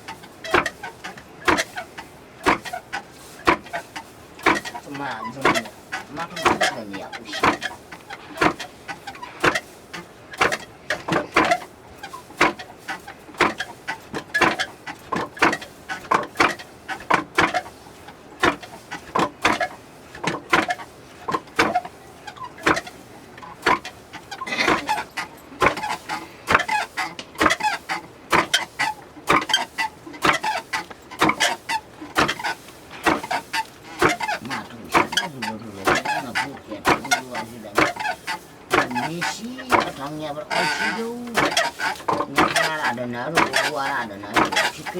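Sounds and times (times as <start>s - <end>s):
hand milling knocks: 0.0s - 1.8s, 2.4s - 17.8s, 18.4s - 44.9s.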